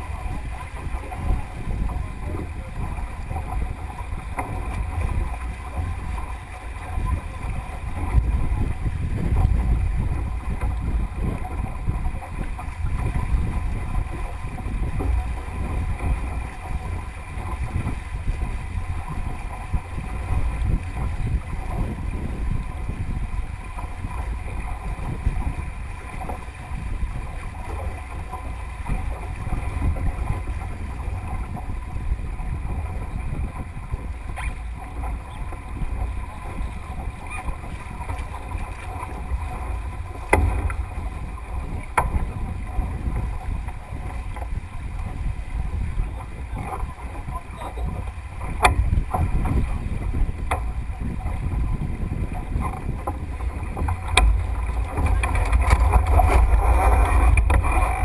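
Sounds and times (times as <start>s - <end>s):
water splashing along hull: 0.0s - 58.0s
wind buffeting microphone: 0.0s - 58.0s.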